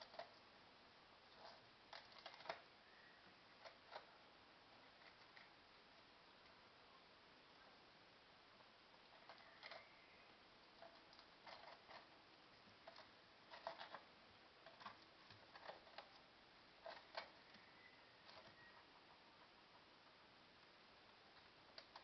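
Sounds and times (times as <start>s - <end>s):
guinea pig chewing: 0.0s - 0.6s, 1.2s - 7.8s, 8.5s - 22.0s.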